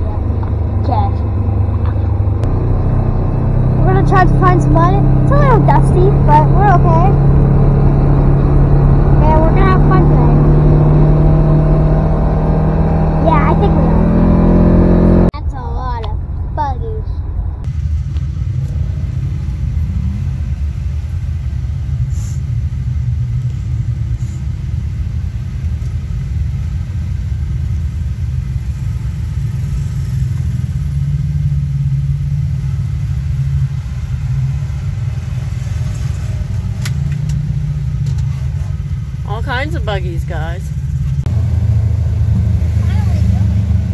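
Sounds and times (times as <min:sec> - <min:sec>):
engine idling low rumble: 0:00.0 - 0:43.9.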